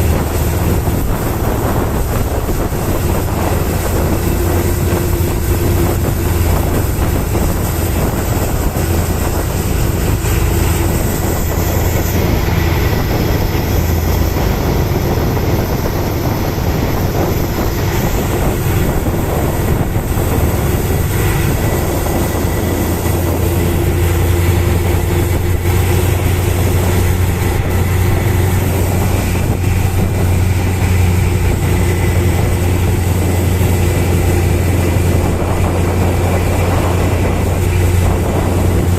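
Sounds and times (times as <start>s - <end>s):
rushing noise: 0.0s - 38.9s
ship engine droning: 0.0s - 38.9s.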